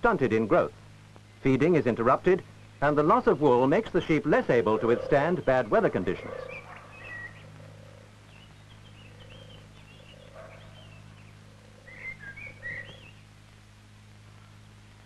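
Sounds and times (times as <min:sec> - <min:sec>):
birds chirping faintly: 0:00.0 - 0:15.0
low hum: 0:00.0 - 0:15.0.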